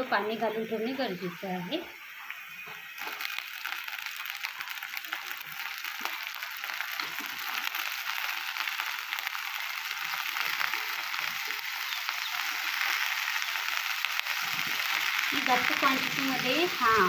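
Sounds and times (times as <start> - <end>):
potatoes sizzling in hot oil: 0.0 - 17.0.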